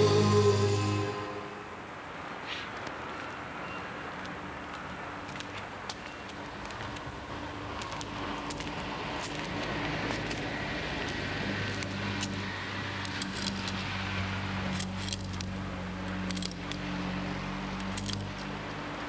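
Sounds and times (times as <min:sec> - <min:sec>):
vehicle engine humming: 0:00.0 - 0:02.4, 0:04.0 - 0:19.0
city street traffic: 0:00.0 - 0:19.0.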